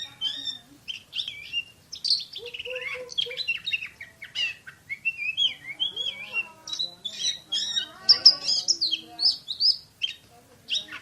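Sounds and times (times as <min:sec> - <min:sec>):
songbird singing fast song: 0:00.0 - 0:11.0.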